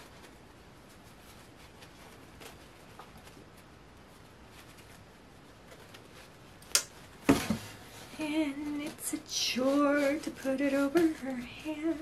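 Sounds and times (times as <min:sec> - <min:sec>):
faint rustling of doll clothing: 0:00.0 - 0:12.0.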